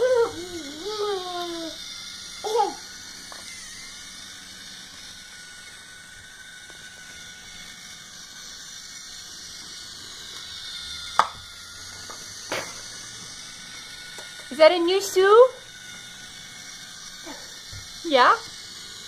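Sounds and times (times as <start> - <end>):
thin high whine: 0.0 - 19.0.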